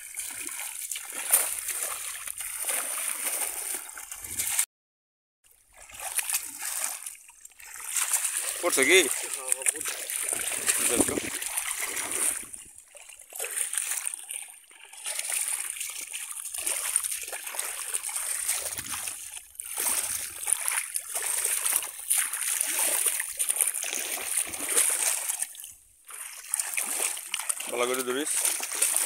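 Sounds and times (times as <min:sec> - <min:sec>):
shallow water splashing: 0:00.0 - 0:04.7, 0:05.5 - 0:29.0.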